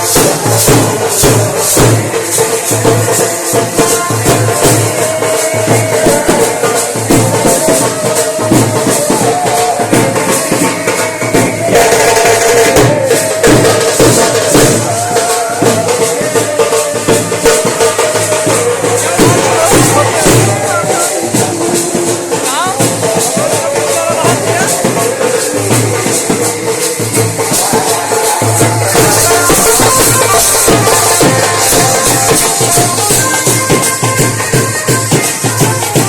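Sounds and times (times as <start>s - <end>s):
driving drum beat: 0.0s - 36.0s.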